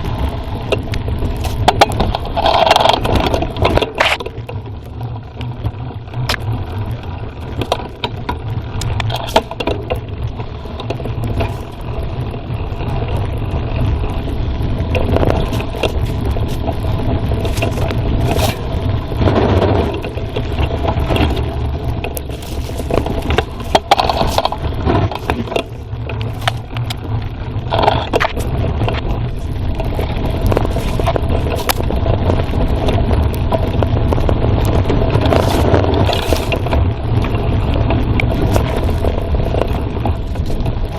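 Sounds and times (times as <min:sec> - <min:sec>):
bike rattling over bumps: 0:00.0 - 0:40.9
bike tyres rumbling on rough ground: 0:00.0 - 0:40.9.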